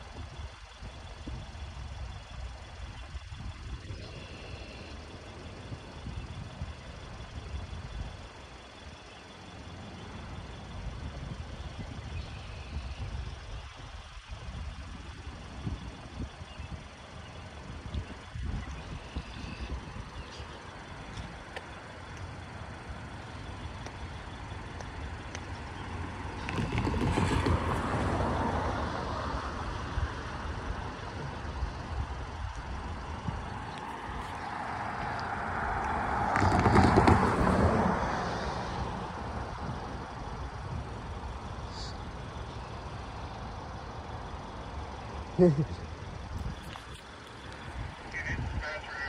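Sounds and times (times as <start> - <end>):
vehicles passing by: 0.0 - 49.0.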